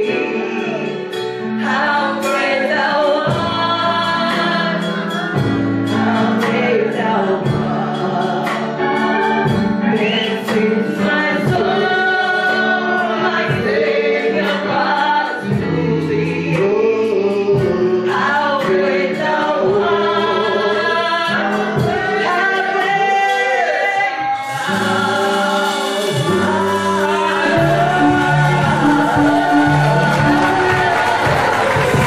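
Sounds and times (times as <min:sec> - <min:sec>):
backing voices singing: 0:00.0 - 0:32.0
woman singing into microphone: 0:01.6 - 0:31.5.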